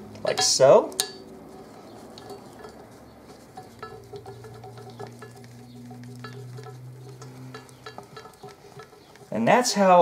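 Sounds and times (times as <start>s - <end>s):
steady low hum: 0.0s - 9.6s
small metallic clicks and scrapes: 0.1s - 9.4s.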